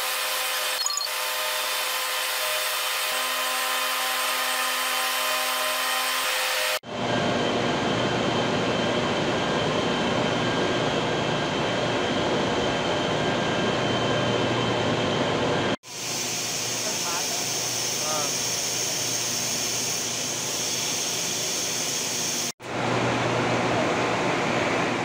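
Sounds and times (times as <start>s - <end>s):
humming industrial machinery: 0.0s - 25.0s.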